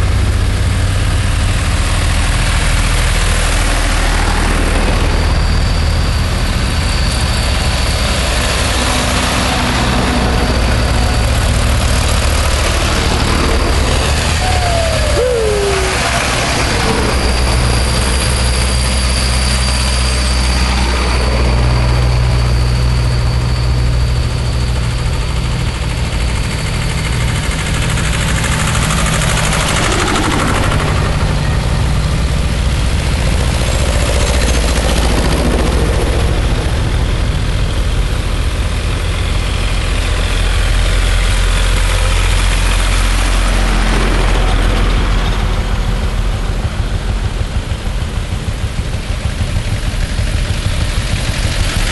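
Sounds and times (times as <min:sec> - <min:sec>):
tractor engines passing: 0:00.0 - 0:51.9.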